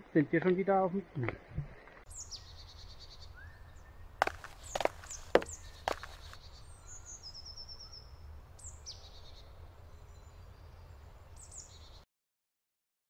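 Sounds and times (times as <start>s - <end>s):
forest birds trilling and chirping: 1.4s - 12.0s.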